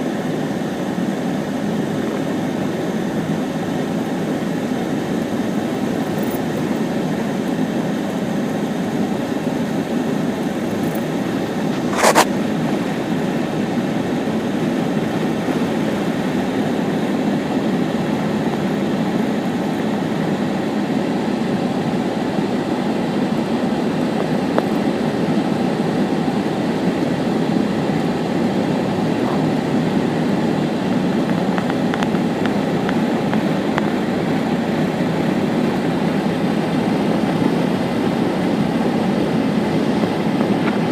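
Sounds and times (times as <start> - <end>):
car cabin drone: 0.0 - 40.9.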